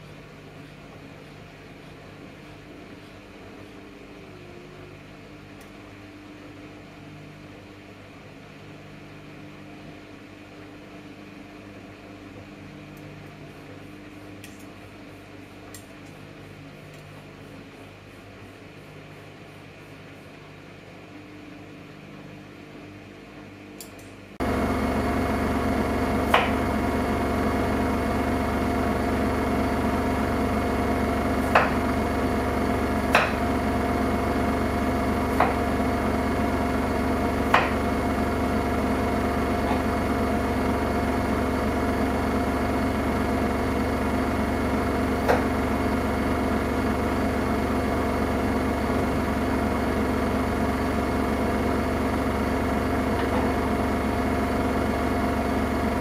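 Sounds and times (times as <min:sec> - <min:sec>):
washing machine spinning: 0:00.0 - 0:23.6, 0:24.3 - 0:56.0.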